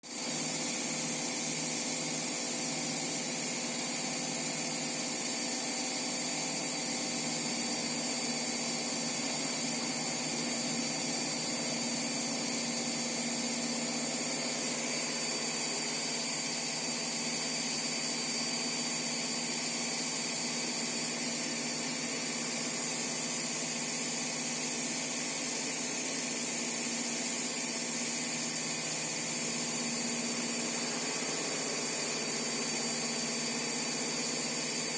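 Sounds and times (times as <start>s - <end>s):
washing machine running: 0.1s - 34.9s.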